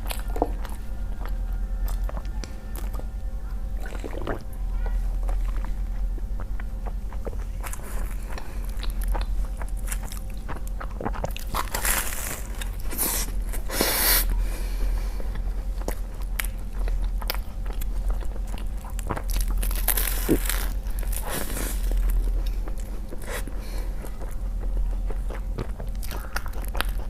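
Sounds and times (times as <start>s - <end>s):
wet chewing and mouth clicks: 0.0s - 4.6s, 5.2s - 27.0s.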